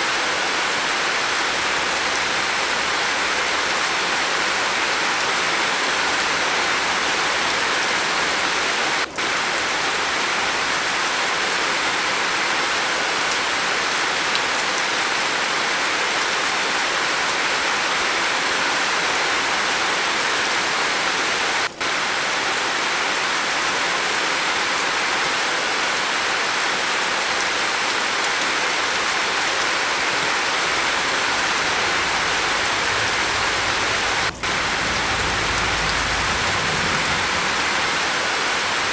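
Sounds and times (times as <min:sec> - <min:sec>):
rain falling on a roof: 0:00.0 - 0:38.9.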